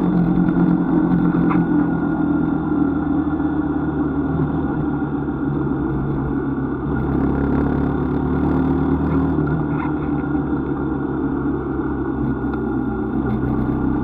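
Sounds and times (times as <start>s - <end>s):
road noise: 0.0s - 14.0s
vehicle engine cruising: 0.0s - 14.0s.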